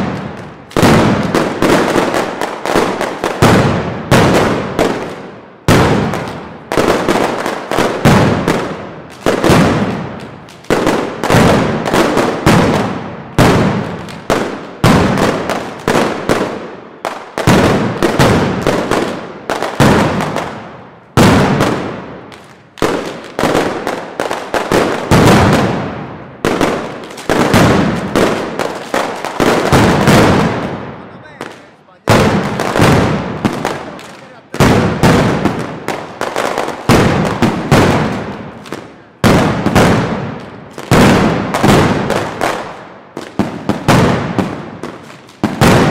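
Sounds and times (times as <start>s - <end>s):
heavy firecrackers banging: 0.0s - 45.9s.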